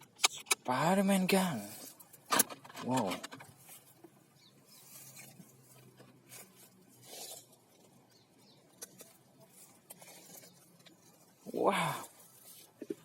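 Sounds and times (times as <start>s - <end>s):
faint rustling and handling: 1.3s - 13.0s.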